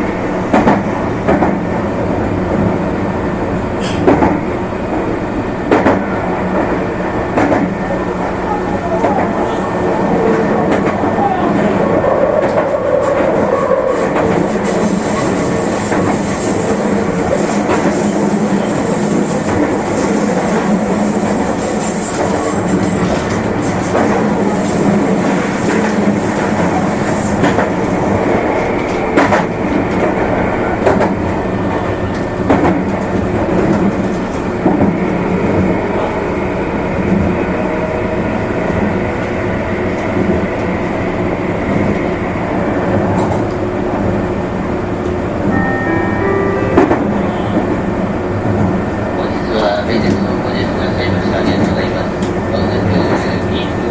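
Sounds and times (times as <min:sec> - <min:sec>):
train wheels rumbling on rail: 0:00.0 - 0:45.6, 0:46.3 - 0:53.9.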